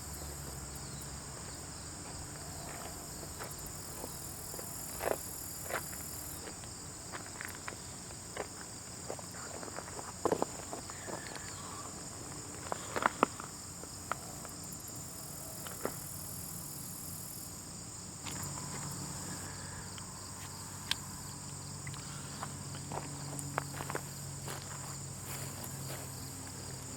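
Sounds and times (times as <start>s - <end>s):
high-pitched insect chorus: 0.0s - 26.9s.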